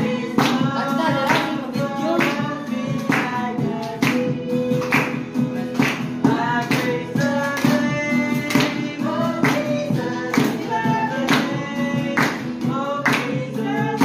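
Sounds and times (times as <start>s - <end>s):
group singing: 0.0s - 14.0s
hand claps: 0.0s - 14.0s
strummed acoustic guitar: 0.0s - 14.0s.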